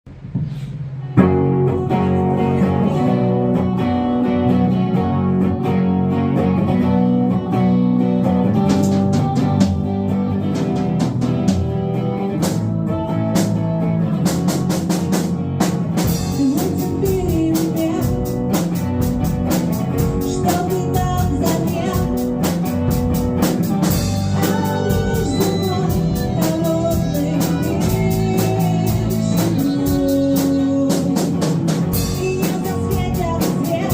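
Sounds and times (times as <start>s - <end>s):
drum-kit beat: 0.1s - 4.0s, 8.2s - 33.9s
guitar-led band music: 0.2s - 33.9s.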